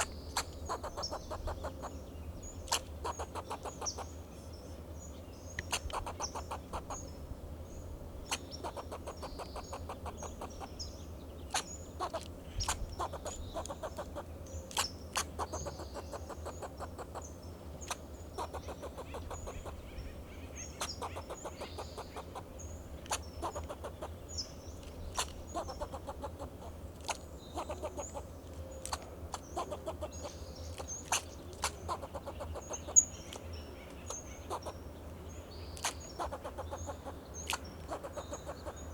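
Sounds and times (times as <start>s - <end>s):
squirrel alarm call barks: 0.0s - 2.0s, 2.7s - 4.2s, 5.6s - 7.0s, 8.3s - 10.9s, 11.5s - 19.9s, 20.6s - 24.4s, 25.1s - 33.4s, 34.0s - 34.8s, 35.8s - 38.9s.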